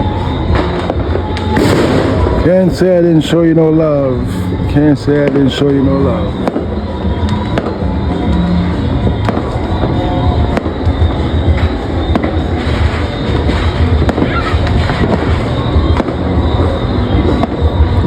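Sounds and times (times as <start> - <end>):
fireworks crackling and banging: 0.0 - 18.0
rumbling firework wash: 0.0 - 18.0.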